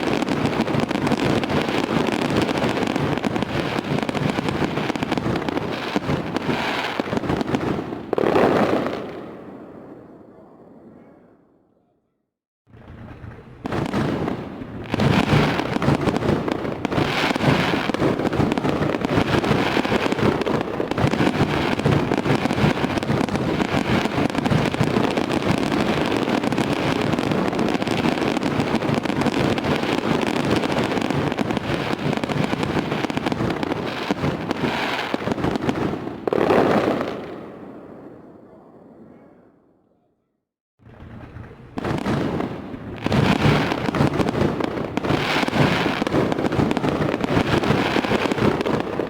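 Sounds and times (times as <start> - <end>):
fireworks banging and crackling: 0.0 - 11.0, 12.7 - 39.0, 40.8 - 49.0.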